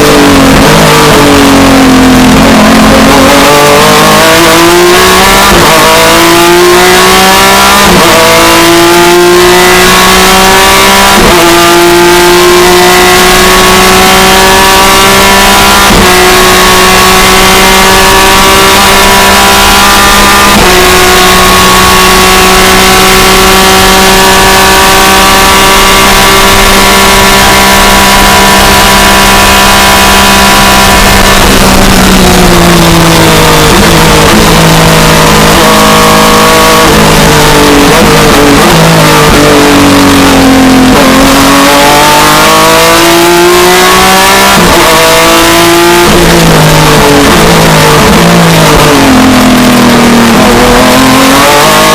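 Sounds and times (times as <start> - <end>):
race car engine at full throttle: 0.0 - 51.9.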